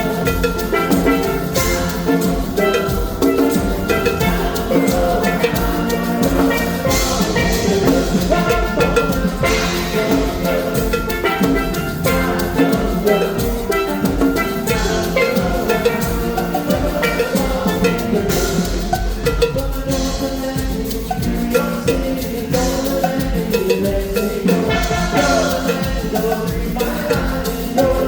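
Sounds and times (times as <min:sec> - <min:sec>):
drum kit beat: 0:00.0 - 0:28.0
hand percussion: 0:00.0 - 0:28.0.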